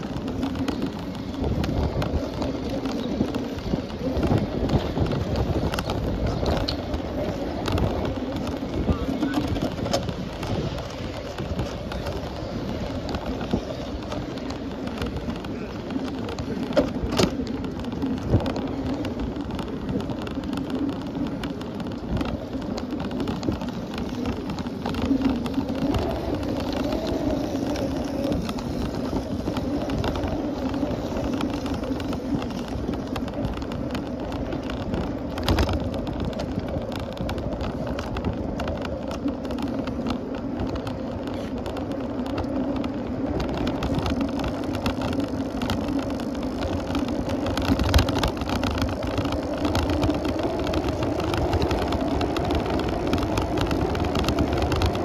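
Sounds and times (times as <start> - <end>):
bicycle tyre and wind noise: 0.0 - 55.0.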